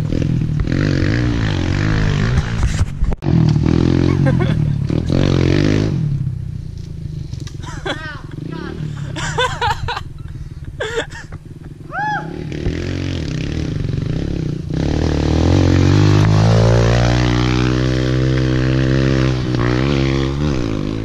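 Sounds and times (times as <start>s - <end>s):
motorbike riding past: 0.0s - 10.3s, 11.5s - 21.0s.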